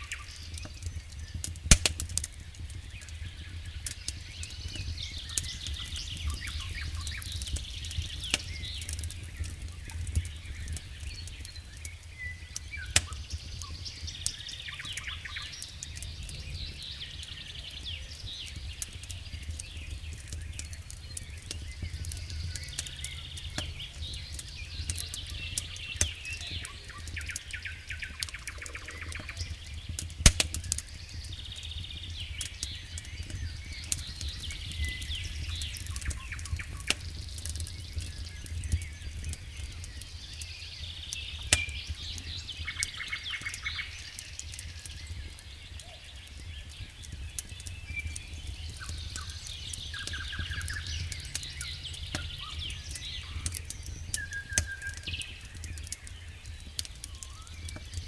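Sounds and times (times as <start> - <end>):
campfire crackling and popping: 0.0 - 58.0
birds chirping and singing: 2.2 - 58.0.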